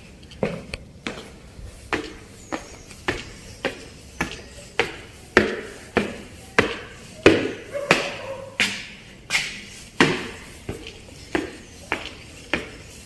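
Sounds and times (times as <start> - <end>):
footsteps climbing stairs: 0.0 - 13.0.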